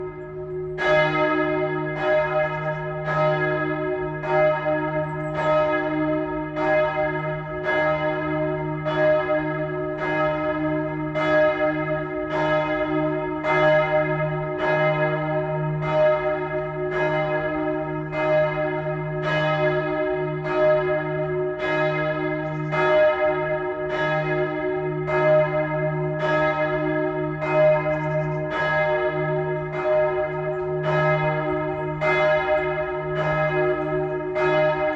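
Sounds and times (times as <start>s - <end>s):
church bell ringing: 0.0s - 34.9s.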